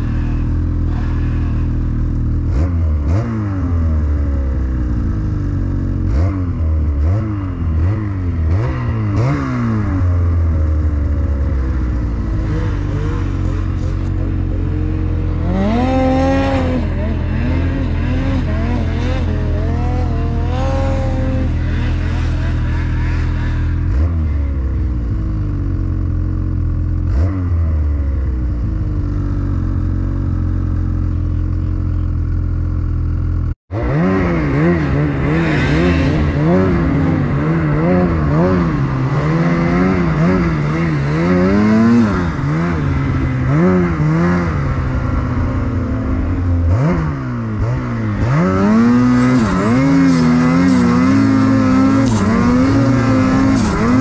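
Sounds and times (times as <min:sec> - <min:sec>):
snowmobile engine revving: 0:00.0 - 0:32.1, 0:33.7 - 0:54.0.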